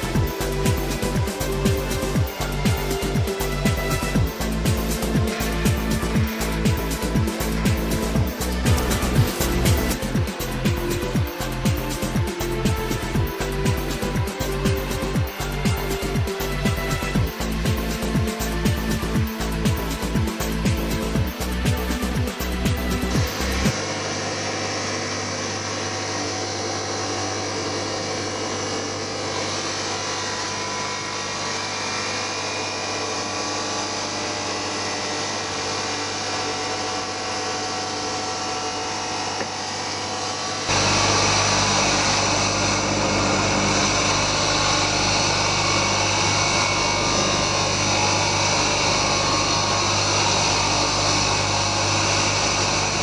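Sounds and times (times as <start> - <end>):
power tool whining: 0.0 - 53.0.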